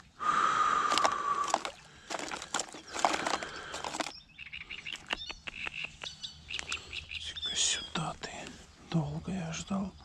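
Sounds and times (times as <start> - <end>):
songbirds chirping: 0.0 - 10.0.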